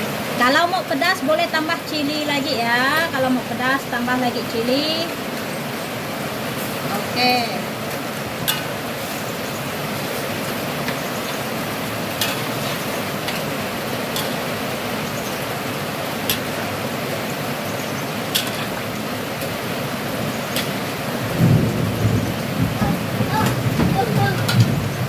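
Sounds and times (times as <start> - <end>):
steady rushing hiss: 0.0 - 25.0.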